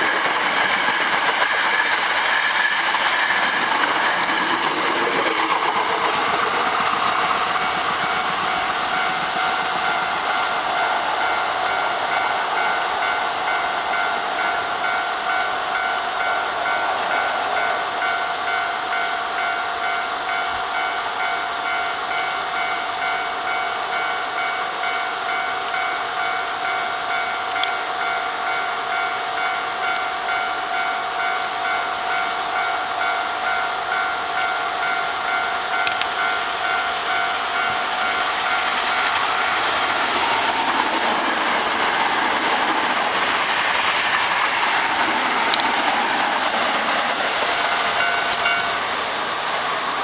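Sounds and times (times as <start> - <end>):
level-crossing alarm bell ringing: 0.0 - 43.2, 46.8 - 49.0
train passing at speed: 0.0 - 50.0.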